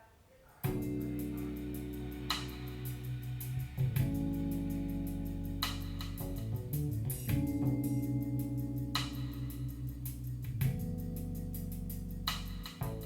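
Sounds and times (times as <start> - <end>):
blues rock guitar and bass: 0.7 - 13.0
ticking beat: 0.7 - 13.0.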